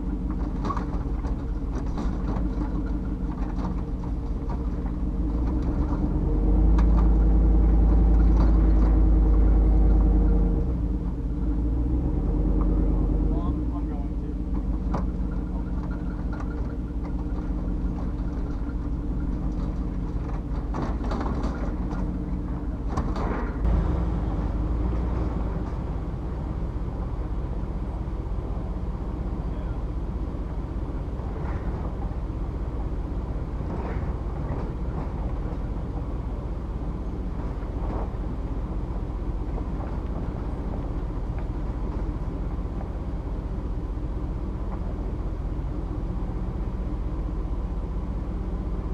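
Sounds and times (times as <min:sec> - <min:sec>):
road rumble: 0:00.0 - 0:48.9
truck engine drone: 0:00.0 - 0:48.9
vehicle jolt: 0:00.0 - 0:48.9.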